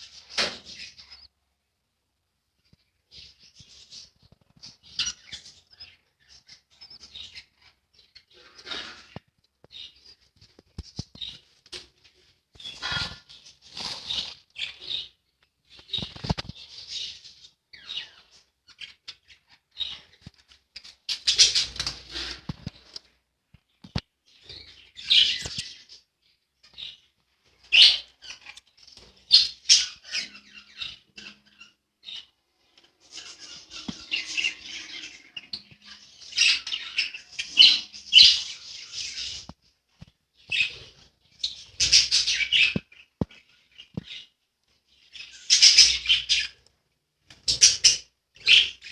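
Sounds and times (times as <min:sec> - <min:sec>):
budgerigars chirping and chattering: 0:00.0 - 0:01.3, 0:02.7 - 0:23.0, 0:23.9 - 0:39.6, 0:40.4 - 0:46.7, 0:47.4 - 0:48.9.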